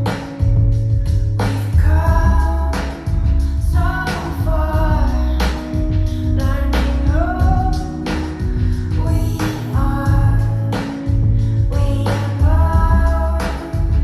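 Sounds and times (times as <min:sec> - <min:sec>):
guitar: 0:00.0 - 0:14.0
heavy bass line: 0:00.0 - 0:14.0
woman singing: 0:01.4 - 0:14.0.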